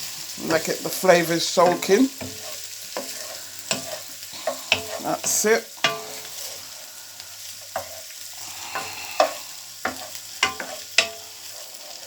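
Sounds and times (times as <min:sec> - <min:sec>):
vegetables sizzling in a frying pan: 0:00.0 - 0:12.0
utensil scraping a pan: 0:00.6 - 0:12.0.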